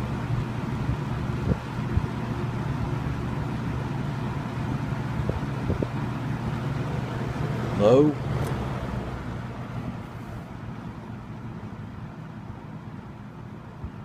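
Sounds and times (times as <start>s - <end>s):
box fan whooshing air: 0.0s - 14.0s.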